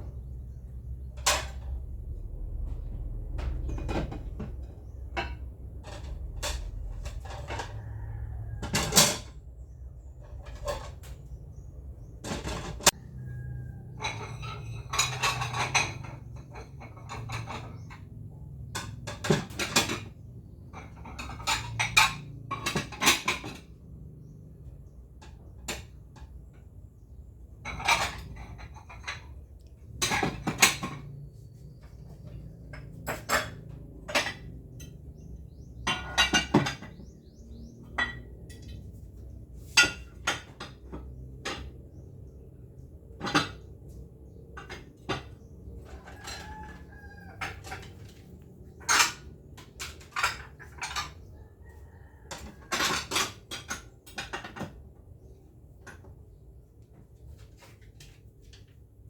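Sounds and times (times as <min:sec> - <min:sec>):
dishes clattering and clinking: 0:00.0 - 0:02.0, 0:03.3 - 0:24.4, 0:27.5 - 0:56.2.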